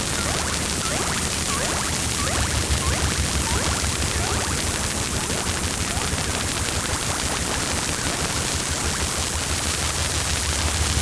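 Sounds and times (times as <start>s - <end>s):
static-like hiss with crackling: 0.0s - 11.0s.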